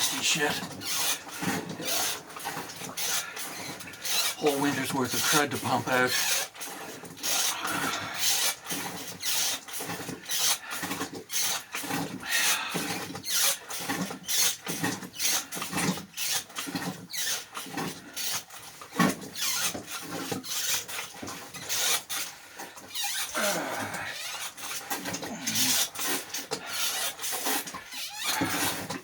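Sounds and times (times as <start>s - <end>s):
hand bilge pump rasping squeaking: 0.0s - 29.0s.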